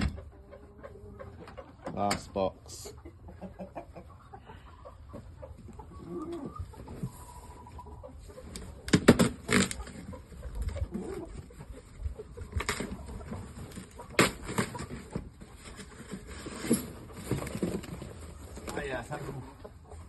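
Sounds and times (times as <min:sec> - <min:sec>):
chickens clucking and calling: 0:00.0 - 0:20.0.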